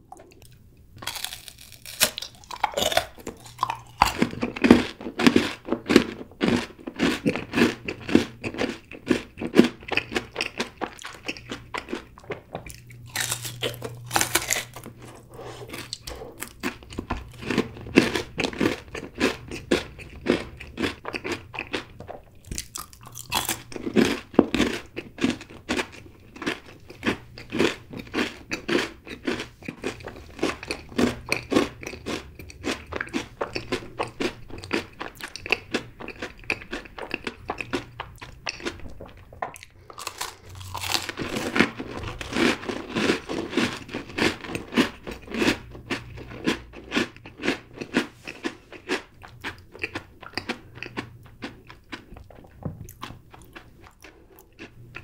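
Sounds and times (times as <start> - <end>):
faint low hum: 0.0 - 55.0
chewing chocolate bar crunching: 0.1 - 55.0.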